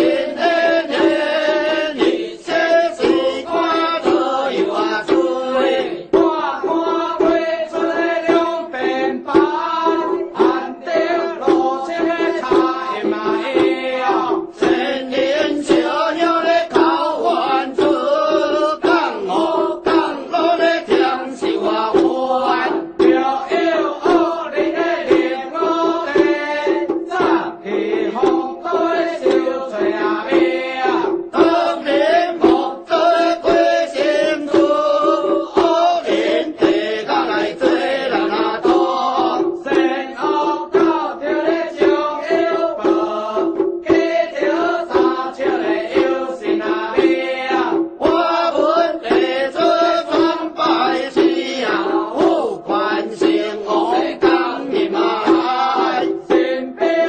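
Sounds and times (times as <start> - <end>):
ritual chant sung to a melody: 0.0 - 57.0.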